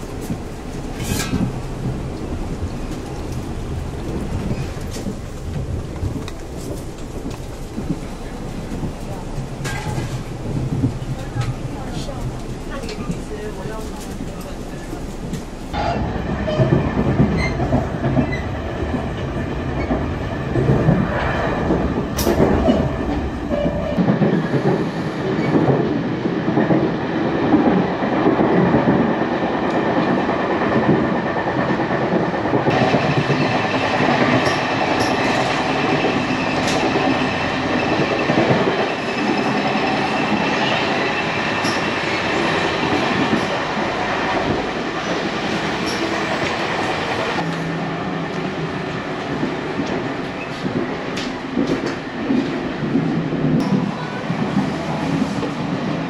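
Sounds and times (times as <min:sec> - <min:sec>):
train wheels clacking on rail joints: 0:00.0 - 0:47.6.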